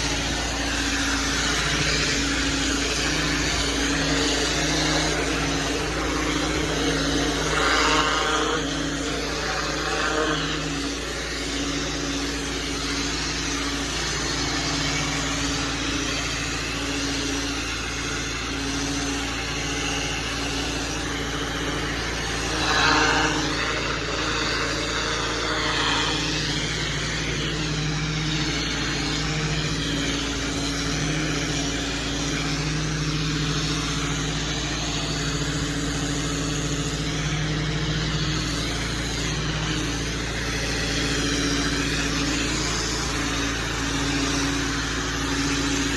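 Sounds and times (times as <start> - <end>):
small gasoline engine running: 0.0 - 45.9.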